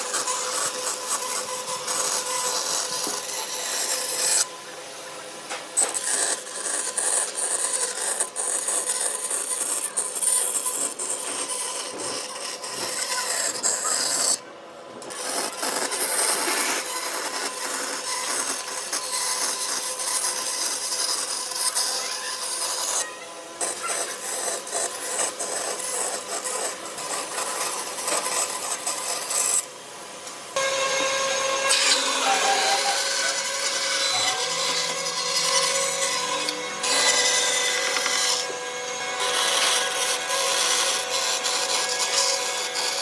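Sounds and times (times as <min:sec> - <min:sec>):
tool scraping across wood: 0:00.0 - 0:04.5, 0:05.5 - 0:14.4, 0:15.0 - 0:29.7, 0:30.6 - 0:43.0.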